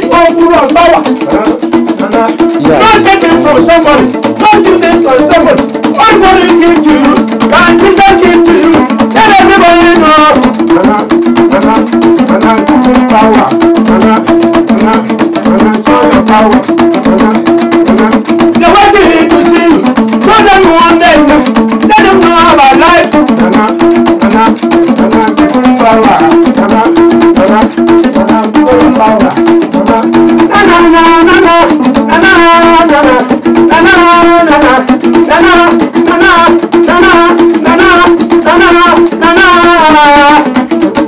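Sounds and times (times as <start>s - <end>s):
loud music with busy percussion: 0.0s - 41.0s.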